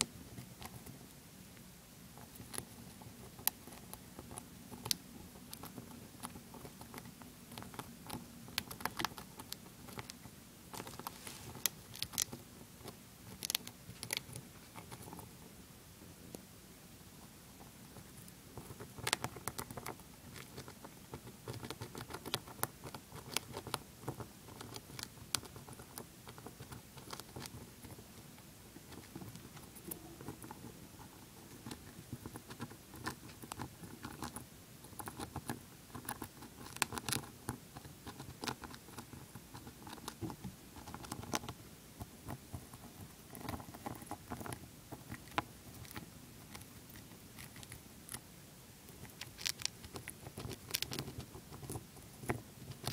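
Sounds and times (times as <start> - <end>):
hamster gnawing a nut: 0.0 - 52.9.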